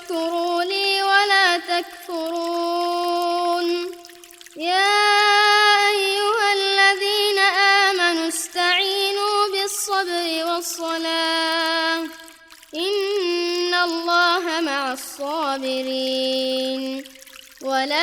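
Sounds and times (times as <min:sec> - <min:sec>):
person chanting melodically: 0:00.0 - 0:18.0.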